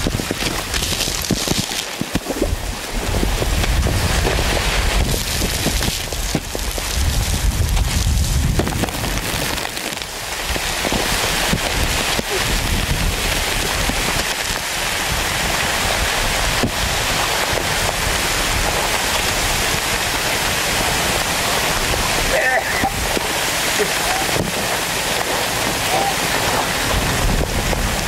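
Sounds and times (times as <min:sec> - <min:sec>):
debris raining down: 0:00.0 - 0:28.0.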